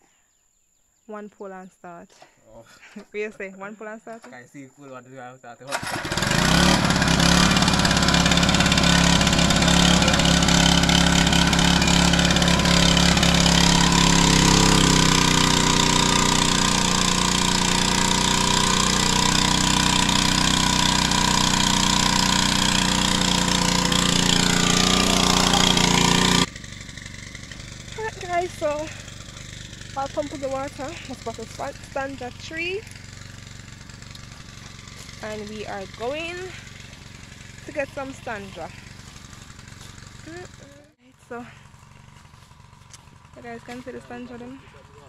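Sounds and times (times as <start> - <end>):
small petrol engine running: 5.7 - 45.0.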